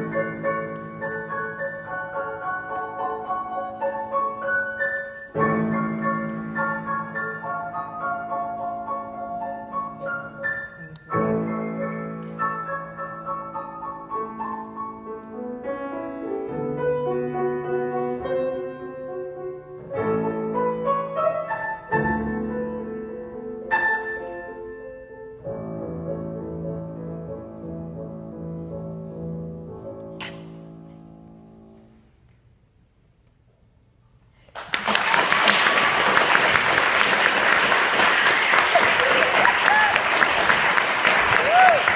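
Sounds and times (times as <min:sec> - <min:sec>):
piano duet: 0:00.0 - 0:32.3, 0:35.2 - 0:41.9.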